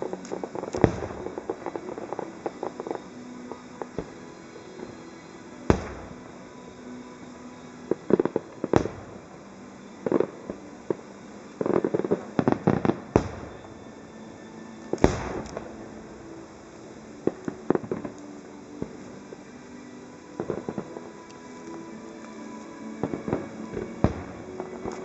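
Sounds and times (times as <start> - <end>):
fireworks crackling pops: 0.0 - 9.3, 9.9 - 14.0, 14.8 - 16.2, 16.8 - 25.0.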